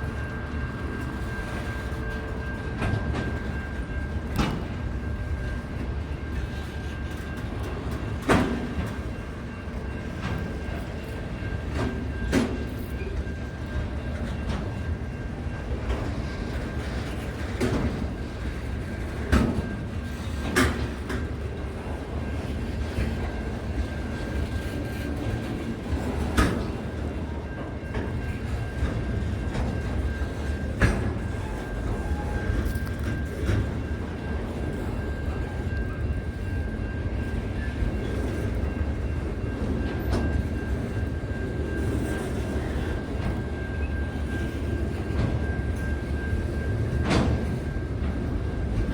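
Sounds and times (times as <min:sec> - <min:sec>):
train rumbling on rails: 0:00.0 - 0:48.9.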